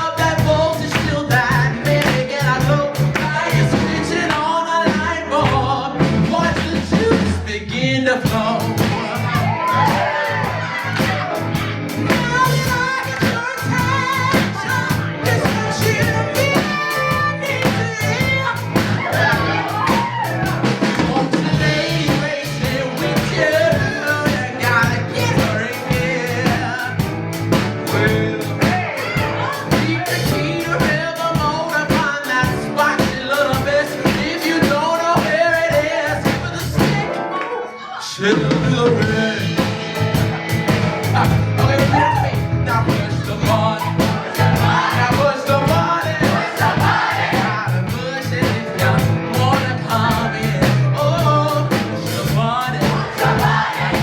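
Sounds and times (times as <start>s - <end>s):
steady drum beat: 0.0s - 37.2s, 38.5s - 54.0s
live band playing: 0.0s - 54.0s
person singing: 0.0s - 54.0s.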